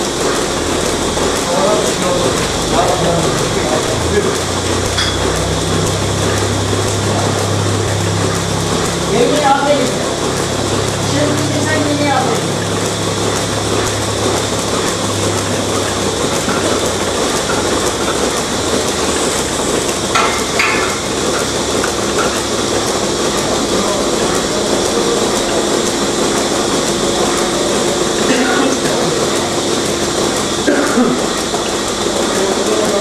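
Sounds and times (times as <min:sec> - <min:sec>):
milking machinery hiss and hum: 0:00.0 - 0:33.0.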